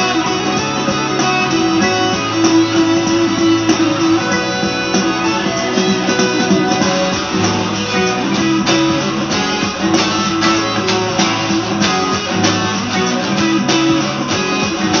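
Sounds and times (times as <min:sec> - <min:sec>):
electric guitar strummed and picked: 0:00.0 - 0:15.0.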